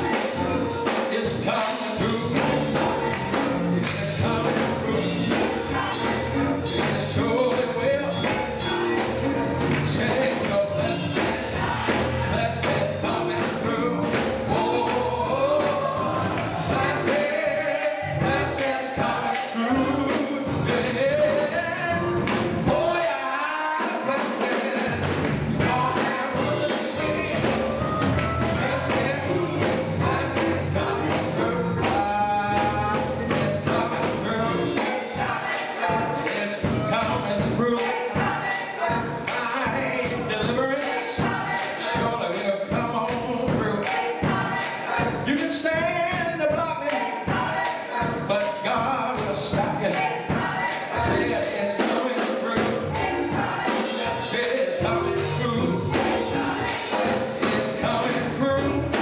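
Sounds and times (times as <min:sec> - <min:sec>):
gospel choir singing: 0:00.0 - 0:59.0
instrumental accompaniment: 0:00.0 - 0:59.0
percussion keeping the beat: 0:00.0 - 0:59.0.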